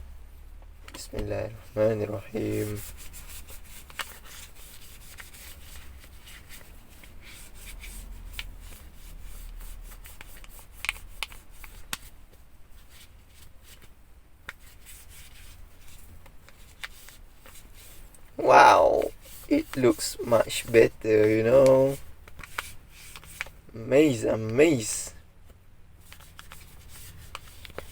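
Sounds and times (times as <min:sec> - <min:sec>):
wet tissue scrubbing phone case: 0:02.1 - 0:23.6, 0:26.0 - 0:27.9.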